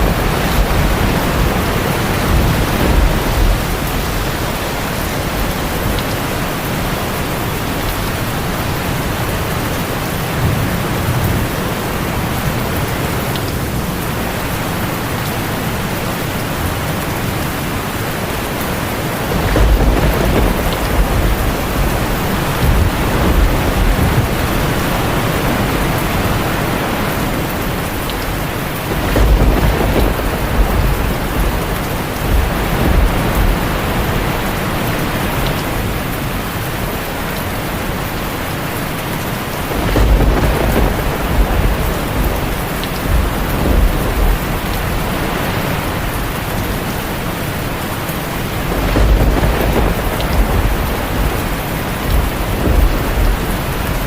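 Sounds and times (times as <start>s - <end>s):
heavy rain on a tin roof: 0.0s - 54.0s
thunder rumbling: 0.0s - 54.0s.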